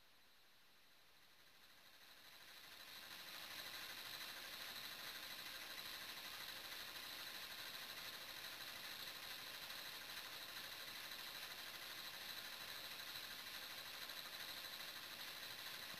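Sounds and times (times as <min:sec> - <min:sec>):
washing machine whir and hiss: 0:00.0 - 0:15.9.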